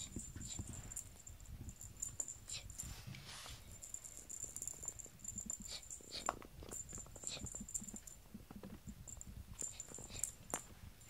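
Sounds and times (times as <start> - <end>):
cats rustling and clicking: 0.0 - 11.0.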